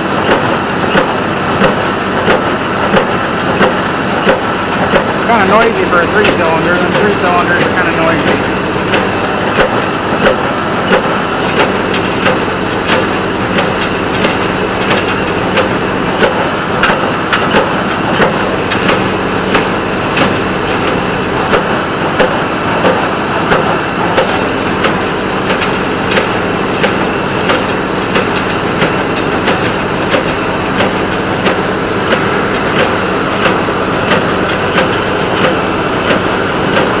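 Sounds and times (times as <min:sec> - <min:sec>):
tractor engine drone: 0:00.0 - 0:37.0.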